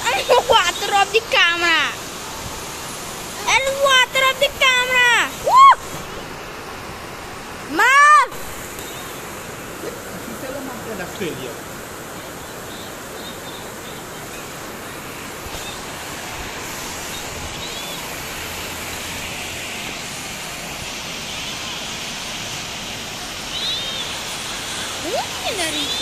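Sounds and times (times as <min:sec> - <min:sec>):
heavy rain falling: 0:00.0 - 0:26.0
wind: 0:00.0 - 0:26.0.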